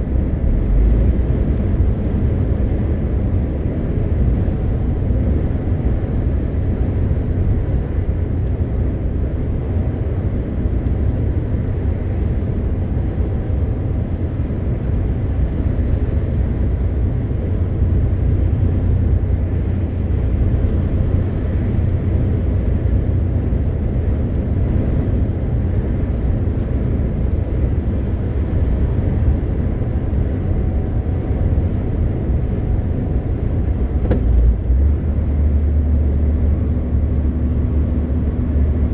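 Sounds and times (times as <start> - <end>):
truck diesel engine cruising: 0.0 - 38.9.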